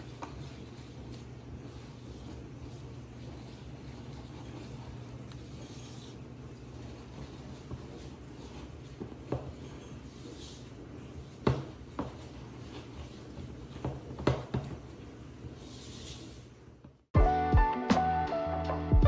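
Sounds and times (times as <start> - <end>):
spatula stirring and scraping batter: 0.0 - 16.6.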